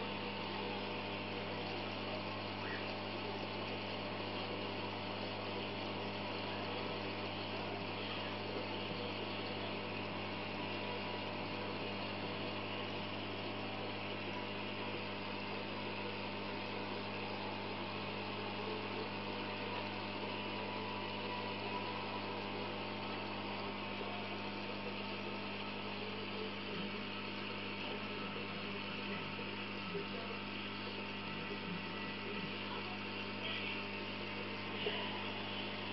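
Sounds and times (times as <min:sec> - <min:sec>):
aquarium pump humming: 0:00.0 - 0:35.9.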